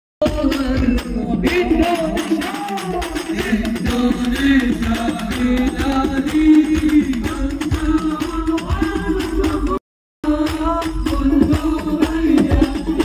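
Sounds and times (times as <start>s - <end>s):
jingling hand percussion: 0.2s - 13.0s.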